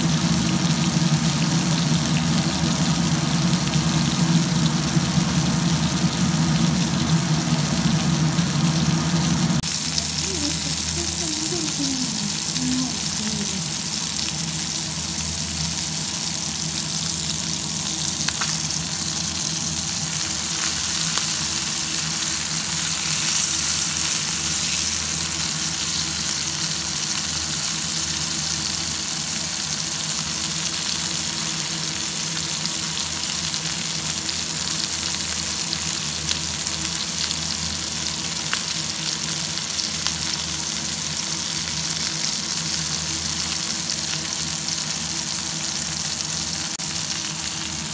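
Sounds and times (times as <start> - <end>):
fish sizzling in oil: 0.0 - 47.9.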